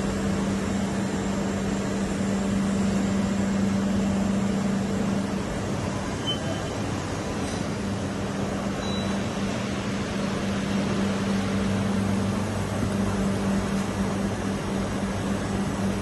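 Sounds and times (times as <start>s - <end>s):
machining center humming: 0.0s - 16.0s.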